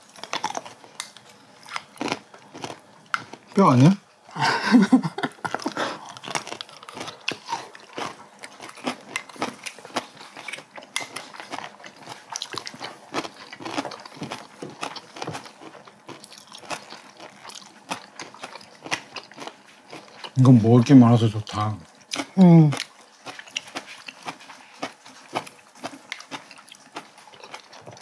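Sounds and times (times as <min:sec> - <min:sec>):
chewing and crunching: 0:00.0 - 0:28.0.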